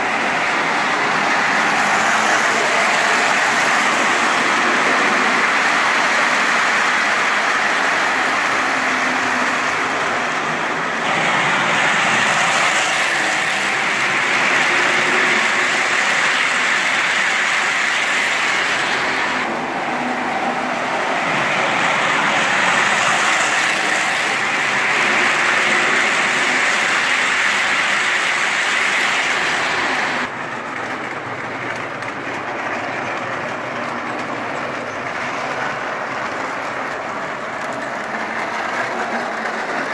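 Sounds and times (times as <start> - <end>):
model train wheels rattling: 0.0 - 20.1, 21.3 - 39.9.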